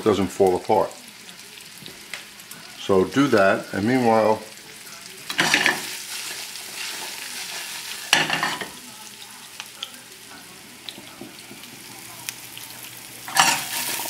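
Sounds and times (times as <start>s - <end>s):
cutlets sizzling in oil: 0.0s - 14.0s.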